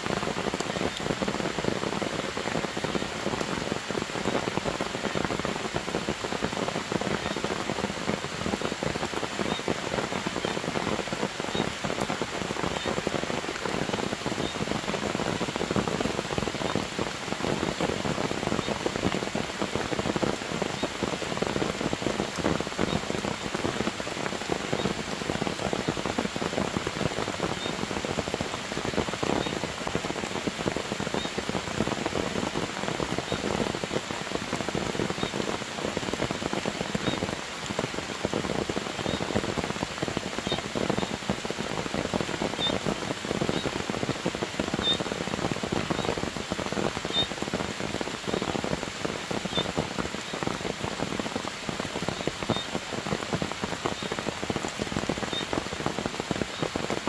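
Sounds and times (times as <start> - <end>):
heavy rain on grass and leaves: 0.0 - 57.0.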